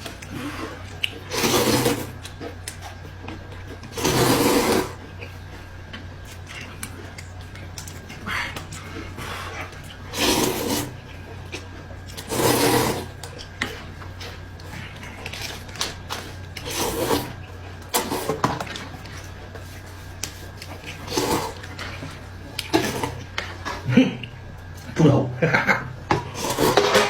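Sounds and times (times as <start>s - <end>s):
person chewing and slurping: 0.0s - 24.9s
low electrical hum: 0.0s - 27.0s.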